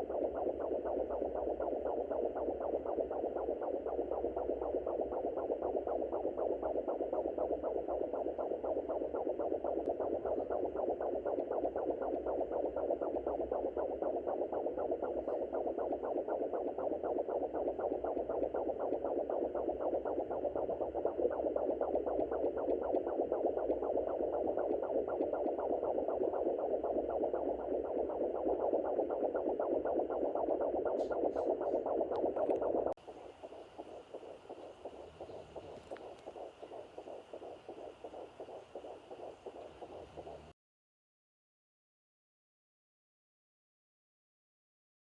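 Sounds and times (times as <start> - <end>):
fetal heartbeat pulsing whoosh: 0.0 - 40.6.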